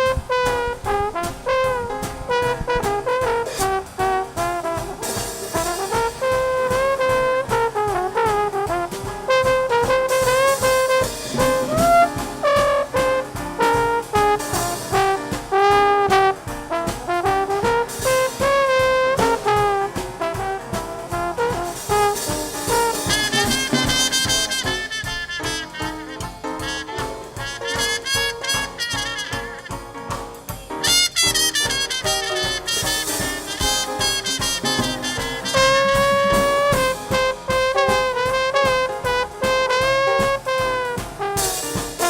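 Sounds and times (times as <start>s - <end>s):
brass horn melody: 0.0s - 42.0s
drum kit: 0.0s - 42.0s
jazz band playing: 0.0s - 42.0s.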